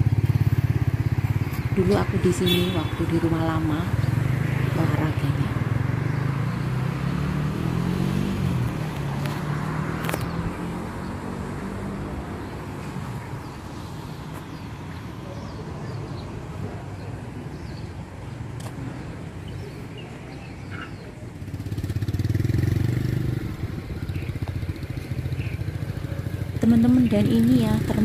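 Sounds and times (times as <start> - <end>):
vehicle engine humming: 0.0 - 28.0
vehicle passing: 0.0 - 28.0.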